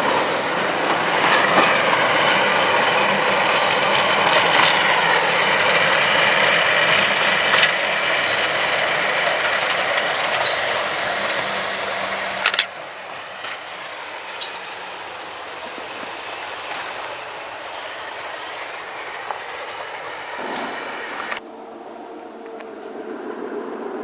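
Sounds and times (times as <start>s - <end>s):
sharp clicks of train wheels: 0.0s - 21.4s
train rolling past: 0.0s - 24.0s.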